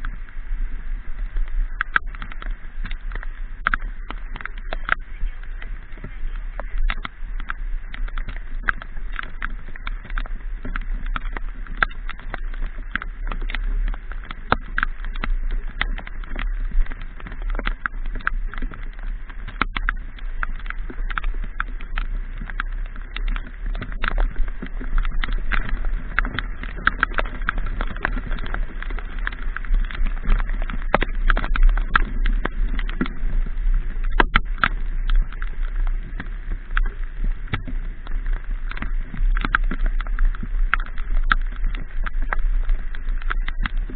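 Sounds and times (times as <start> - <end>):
raindrops tapping on microphone: 0.0 - 43.9
wind rumble: 0.0 - 43.9.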